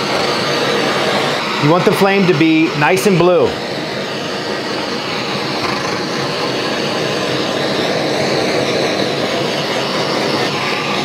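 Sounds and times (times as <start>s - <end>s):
blowtorch flame rushing: 0.0s - 11.0s.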